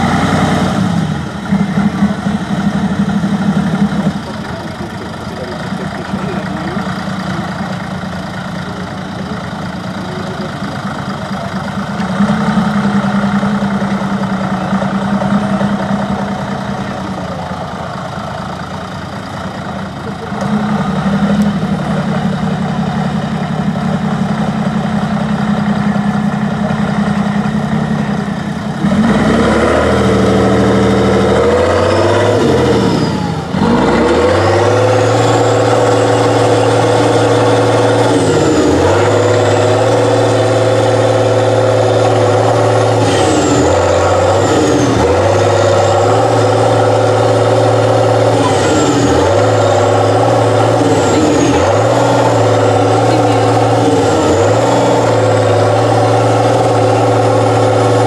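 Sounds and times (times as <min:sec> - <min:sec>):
truck diesel engine revving: 0:00.0 - 0:58.0.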